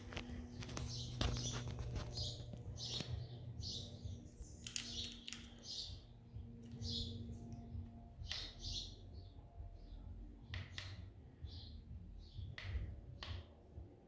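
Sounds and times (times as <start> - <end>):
bird chirping: 0.0 - 13.5
low steady hum: 0.0 - 14.0.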